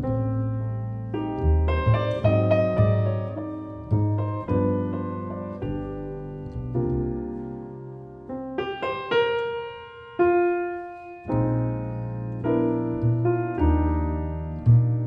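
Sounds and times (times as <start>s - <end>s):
plucked double bass notes: 0.0s - 9.0s, 11.2s - 15.0s
piano chords ringing: 0.0s - 15.0s.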